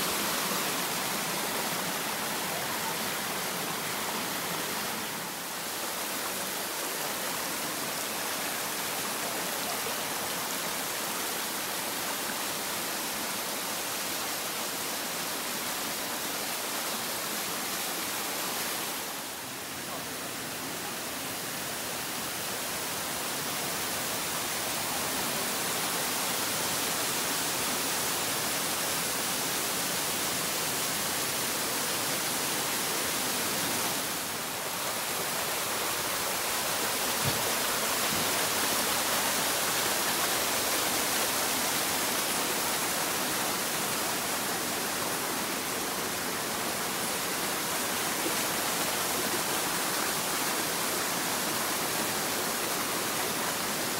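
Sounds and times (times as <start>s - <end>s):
stream cascading over small falls: 0.0s - 53.9s.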